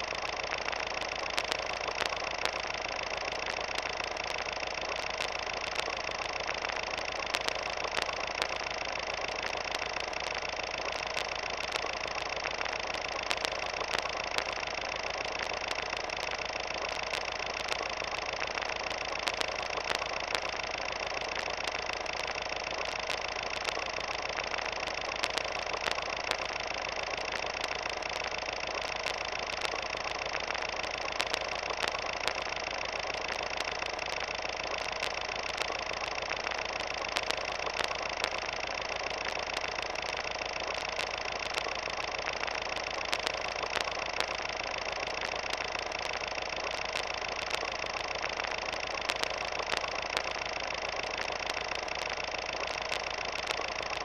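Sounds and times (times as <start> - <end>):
film projector whirring: 0.0 - 54.0
projector clicks and crackle: 0.0 - 54.0.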